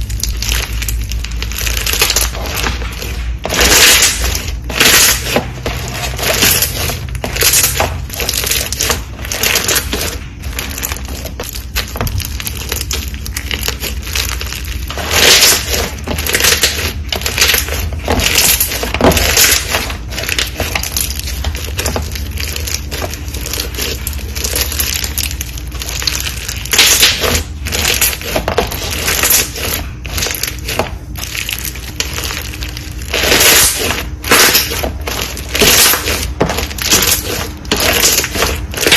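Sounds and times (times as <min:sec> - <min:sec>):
slime squishing crunchy crackling: 0:00.0 - 0:38.9.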